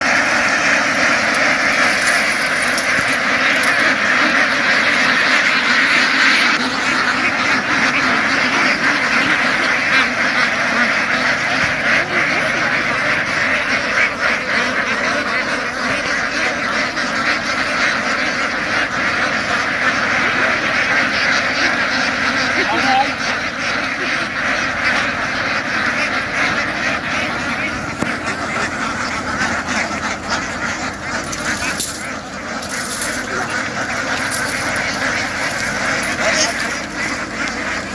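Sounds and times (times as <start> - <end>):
ducks quacking: 0.0 - 37.9.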